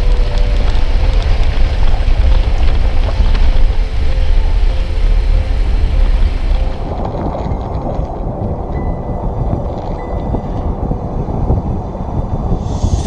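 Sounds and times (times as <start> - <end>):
off-road vehicle rumbling: 0.0 - 11.2.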